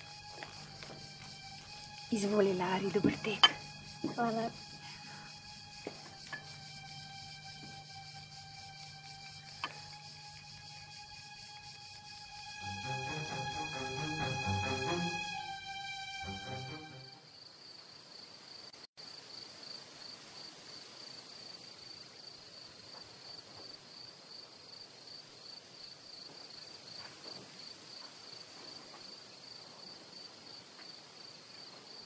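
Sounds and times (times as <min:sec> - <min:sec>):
faint insect chirping trill: 0:00.0 - 0:32.0.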